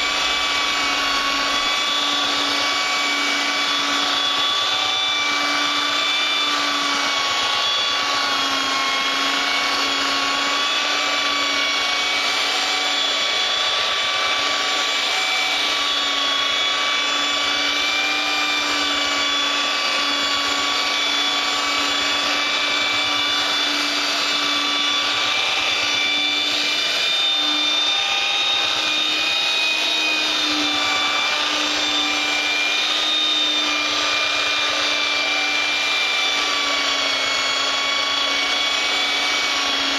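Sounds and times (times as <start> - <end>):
electric sander motor hum: 0.0 - 39.9.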